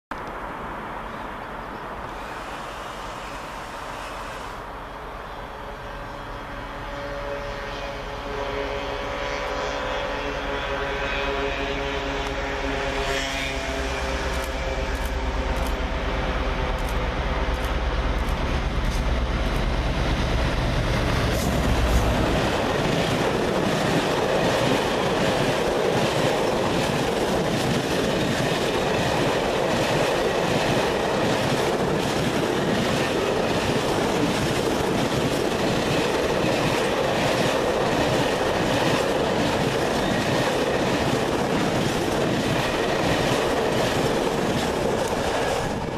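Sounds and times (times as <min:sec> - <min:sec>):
diesel locomotive engine drone: 0:00.1 - 0:45.9.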